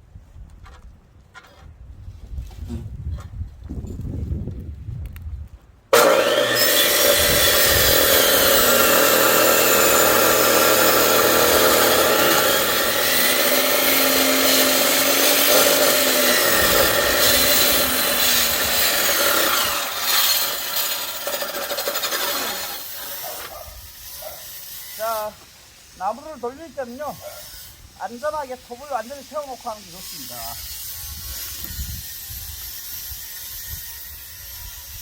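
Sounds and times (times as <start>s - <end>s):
circular saw cutting log: 5.9s - 35.0s.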